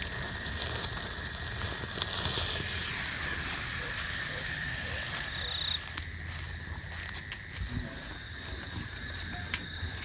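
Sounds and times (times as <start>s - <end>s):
cricket trill: 0.0s - 10.0s.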